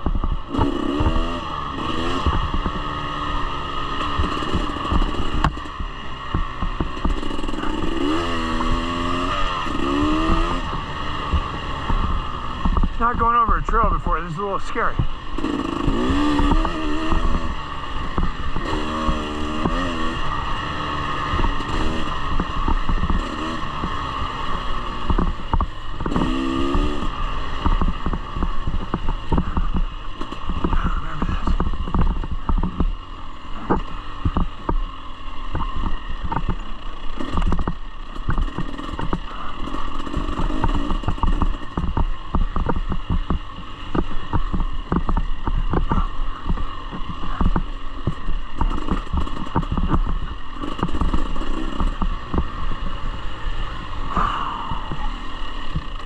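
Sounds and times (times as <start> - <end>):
bike knocking and rattling: 0.0 - 56.0
dirt bike engine revving: 0.0 - 56.0.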